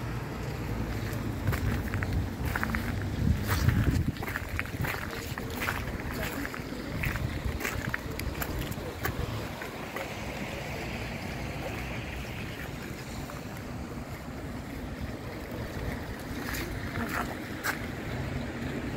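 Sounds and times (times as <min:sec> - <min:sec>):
road traffic noise: 0:00.0 - 0:18.9.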